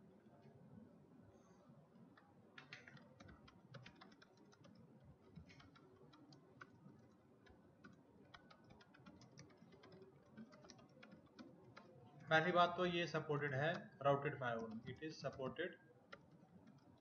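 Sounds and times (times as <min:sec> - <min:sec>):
faint keyboard typing: 0:01.9 - 0:17.0.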